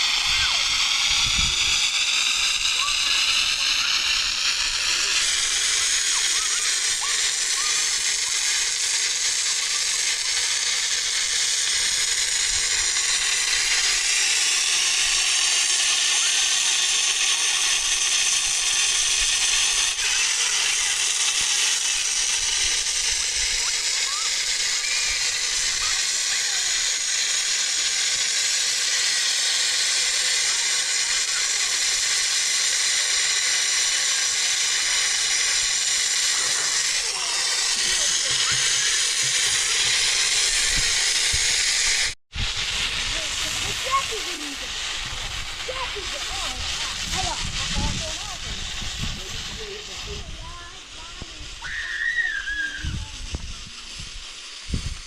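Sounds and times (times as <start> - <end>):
rushing water hiss: 0.0 - 55.0.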